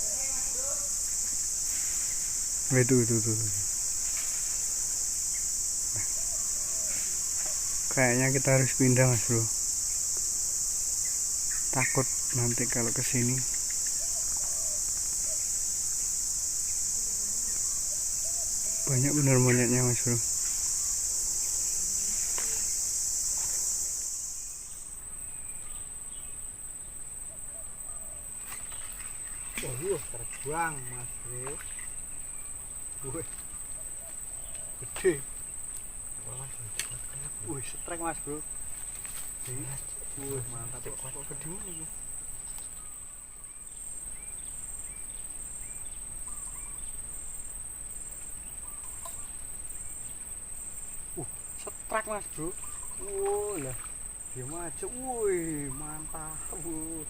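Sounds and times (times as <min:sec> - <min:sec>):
insect chorus droning: 0:00.0 - 0:57.0.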